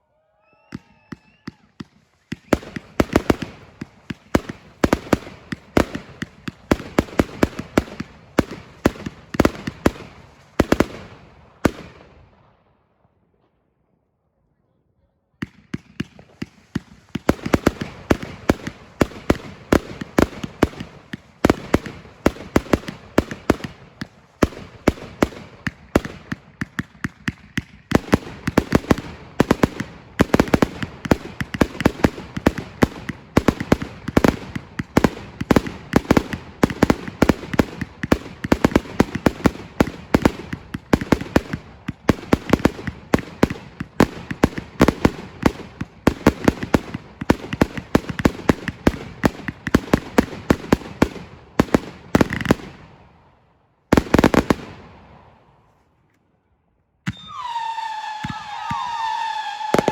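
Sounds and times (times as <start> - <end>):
fireworks barrage of bangs: 0.7 - 12.1, 15.4 - 53.0, 53.9 - 55.2, 57.1 - 59.9.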